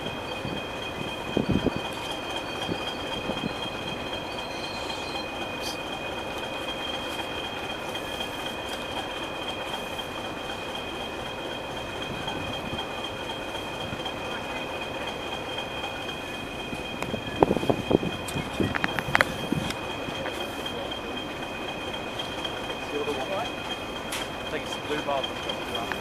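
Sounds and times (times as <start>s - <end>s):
diesel train running on track: 0.0s - 26.0s
high-pitched whine: 0.0s - 26.0s.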